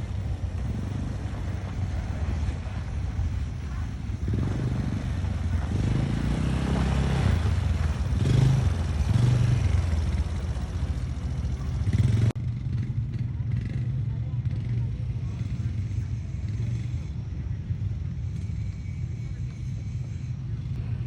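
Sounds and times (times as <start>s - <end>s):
quad bike engines revving: 0.0s - 21.0s.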